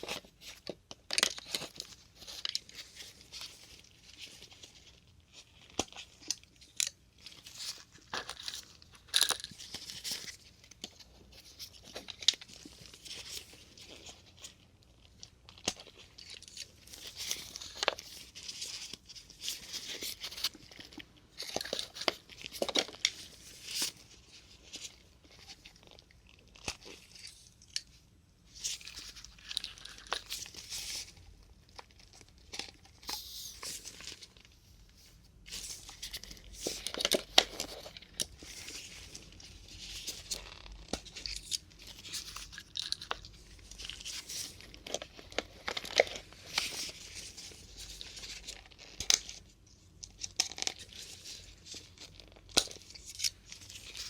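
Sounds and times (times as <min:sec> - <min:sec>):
crinkly plastic handling: 0:00.0 - 0:54.0.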